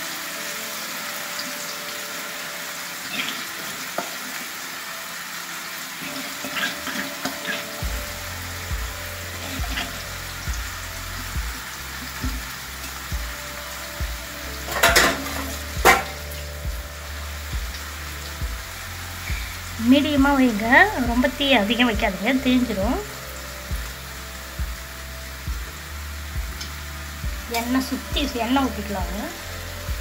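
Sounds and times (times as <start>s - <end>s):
fish sizzling in oil: 0.0s - 30.0s.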